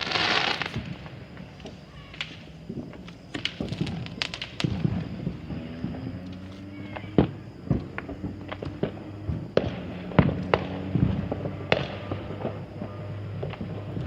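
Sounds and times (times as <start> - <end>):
distant fireworks bangs: 0.0 - 14.0.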